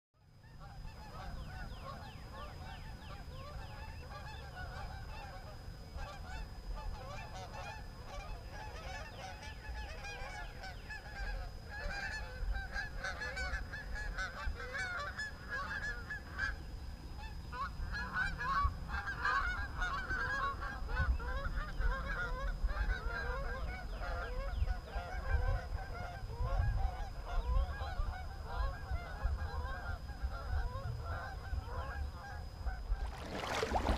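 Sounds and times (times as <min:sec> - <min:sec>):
faint high whine: 0:00.2 - 0:22.6, 0:28.0 - 0:33.9.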